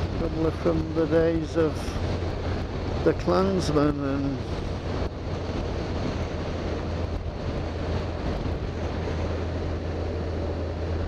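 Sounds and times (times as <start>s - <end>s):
motorcycle engine drone: 0.0s - 11.0s
wind rushing over microphone: 0.0s - 11.0s.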